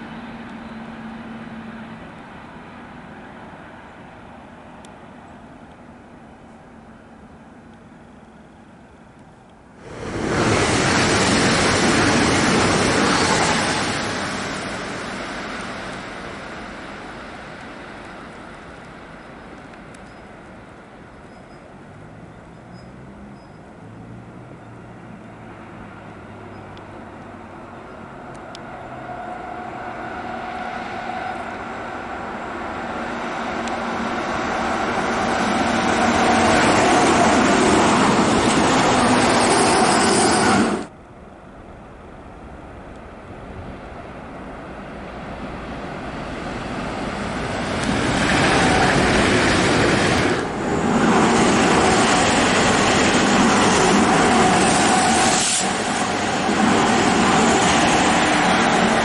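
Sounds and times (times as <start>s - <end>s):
electric trains passing: 0.0s - 59.0s
wheel and rail noise: 0.0s - 59.0s.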